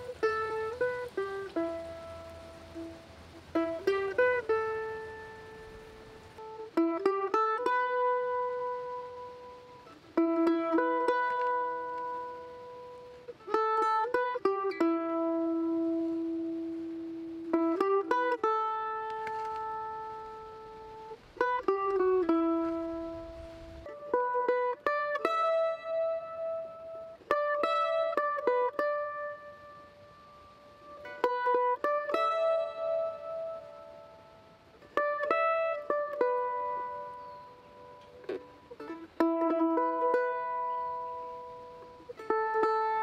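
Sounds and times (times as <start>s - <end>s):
mandolin played with a pick: 0.0s - 43.0s.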